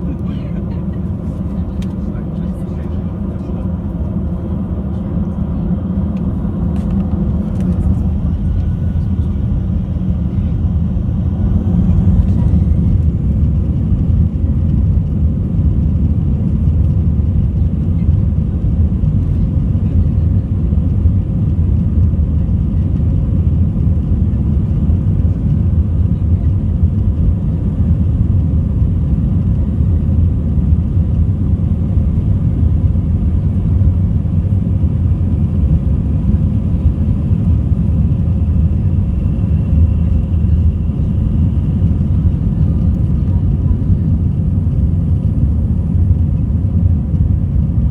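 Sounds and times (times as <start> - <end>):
engine and airflow rumble: 0.0 - 47.9.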